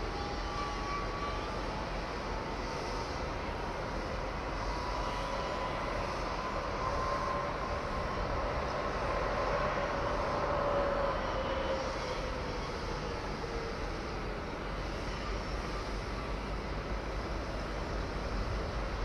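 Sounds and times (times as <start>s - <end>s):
distant machinery hum: 0.0s - 19.0s.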